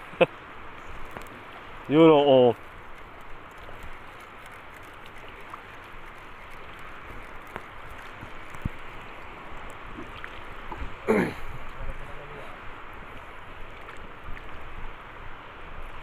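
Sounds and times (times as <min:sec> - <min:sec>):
choppy lake water: 0:00.0 - 0:16.0.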